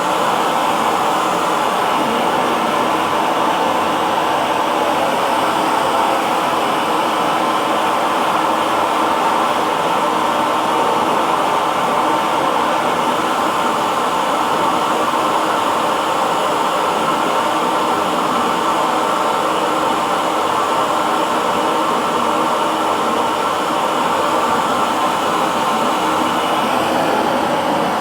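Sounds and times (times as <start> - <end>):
hair dryer running: 0.0 - 28.0.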